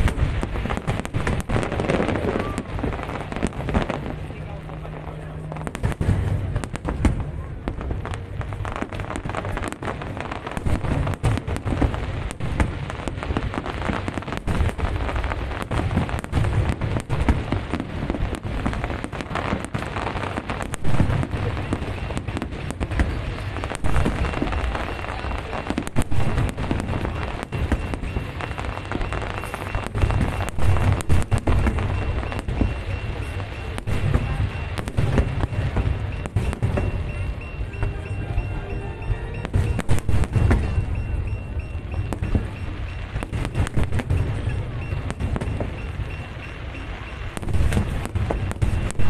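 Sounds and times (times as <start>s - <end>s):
fireworks bangs and crackle: 0.0s - 49.0s.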